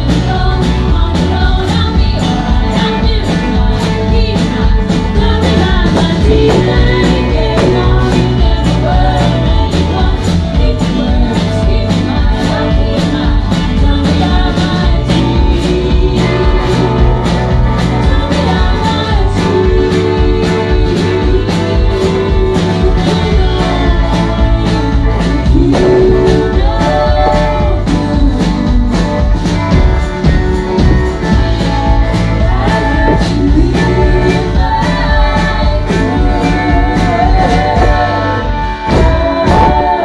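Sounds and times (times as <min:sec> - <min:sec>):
women singing together: 0:00.0 - 0:29.5, 0:30.8 - 0:40.0
drum kit beat: 0:00.0 - 0:40.0
electric and acoustic guitars: 0:00.0 - 0:40.0.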